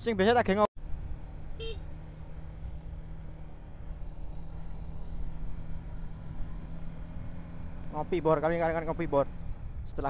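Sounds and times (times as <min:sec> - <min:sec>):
motorcycle engine running: 0:00.8 - 0:10.0.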